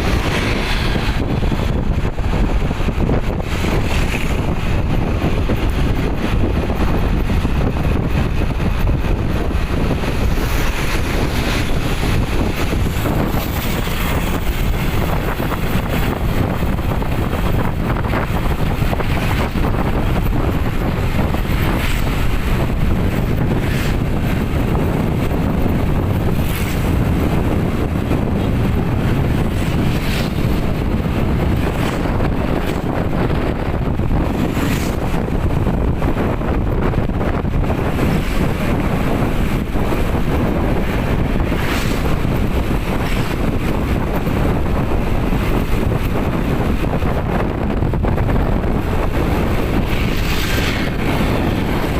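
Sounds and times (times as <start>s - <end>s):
low rumble: 0.0s - 51.9s
wind buffeting the microphone: 0.0s - 51.9s.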